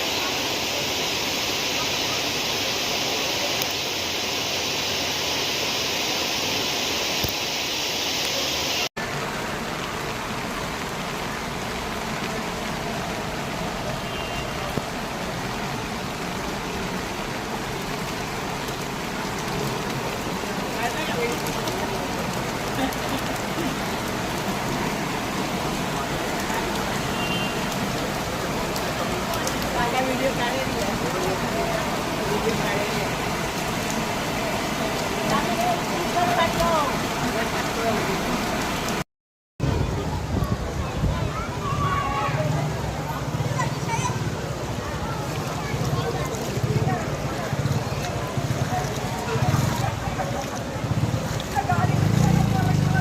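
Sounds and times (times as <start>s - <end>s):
heavy rain downpour: 0.0s - 39.0s, 39.6s - 53.0s.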